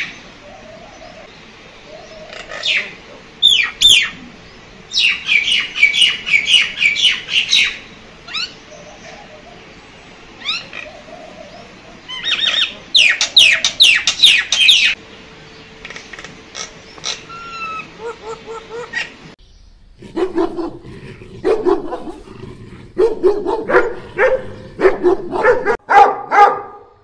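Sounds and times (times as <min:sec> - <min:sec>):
birds chirping: 0:00.0 - 0:20.0, 0:23.0 - 0:26.8.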